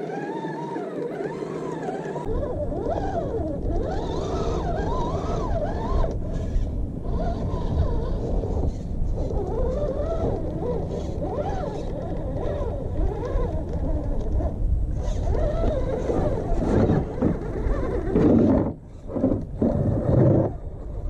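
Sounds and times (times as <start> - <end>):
electric motor whining: 0.0 - 20.6.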